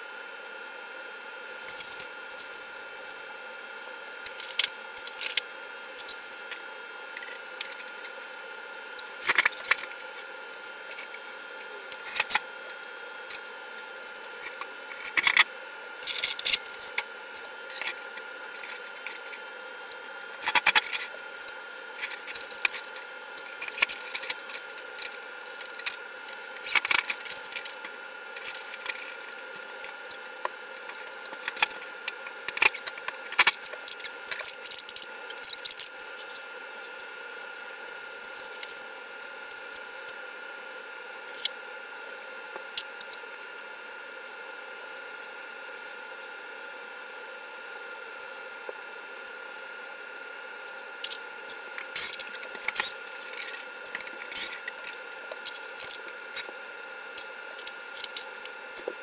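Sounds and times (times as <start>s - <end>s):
faint high hum: 0.0s - 59.0s.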